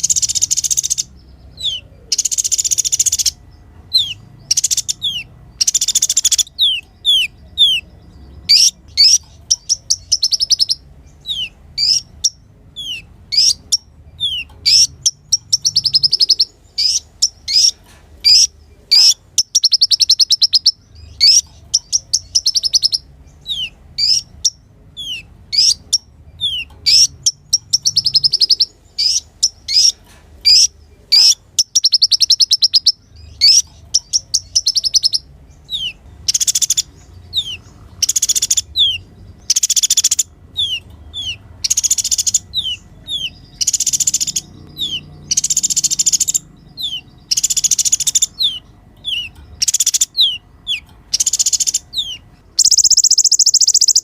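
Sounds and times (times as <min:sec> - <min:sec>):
sunbird chirping and trilling: 0:00.0 - 0:54.0.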